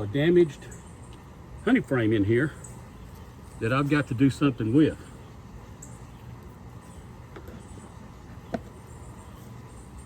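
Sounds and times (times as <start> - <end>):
bees humming: 0.1 - 10.0.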